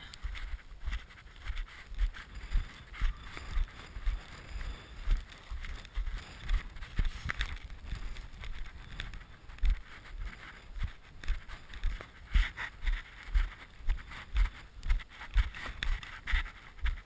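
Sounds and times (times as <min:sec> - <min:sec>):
sled thumping and scraping on snow: 0:00.0 - 0:17.0.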